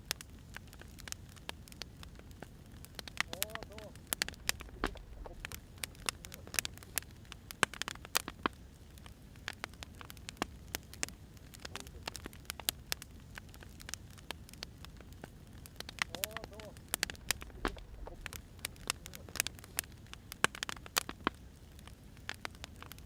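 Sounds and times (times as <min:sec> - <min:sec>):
low steady hiss: 0:00.0 - 0:23.0
wood fire crackling: 0:00.0 - 0:23.0.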